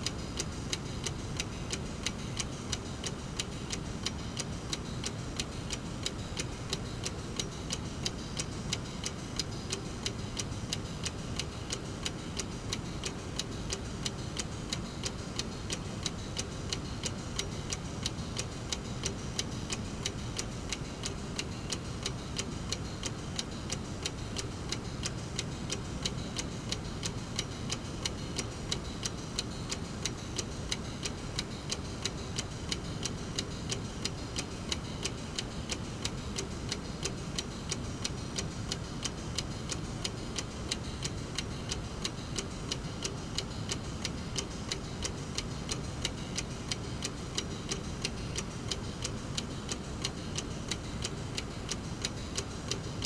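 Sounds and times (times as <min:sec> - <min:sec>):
mechanical clock ticking: 0:00.0 - 0:53.0.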